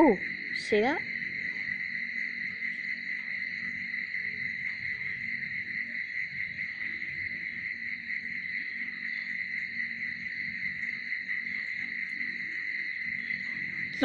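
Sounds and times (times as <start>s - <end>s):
night insects chirring: 0.0s - 14.0s.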